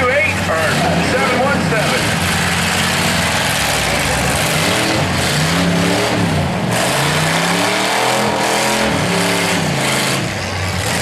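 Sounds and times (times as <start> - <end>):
car engines revving hard: 0.0 - 11.0
loud rumble: 0.0 - 11.0.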